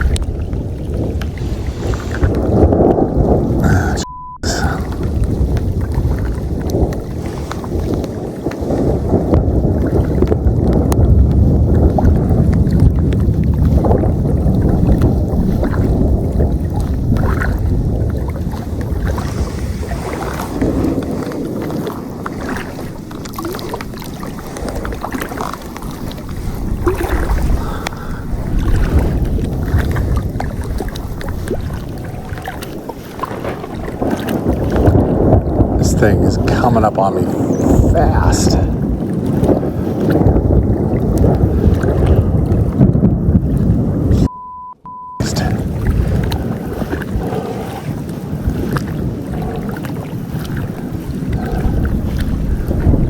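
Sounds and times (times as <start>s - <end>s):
gusty wind on microphone: 0.0s - 53.0s
water splashing and lapping: 0.0s - 53.0s.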